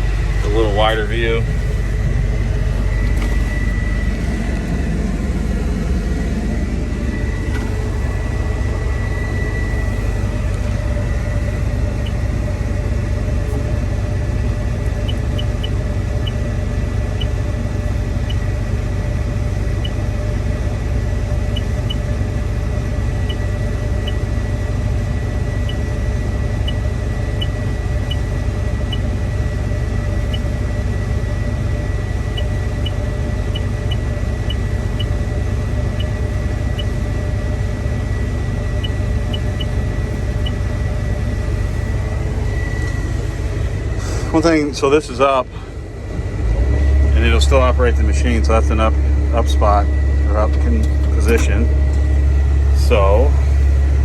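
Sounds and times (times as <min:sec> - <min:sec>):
diesel engine idling: 0:00.0 - 0:54.0
high whine: 0:00.0 - 0:54.0.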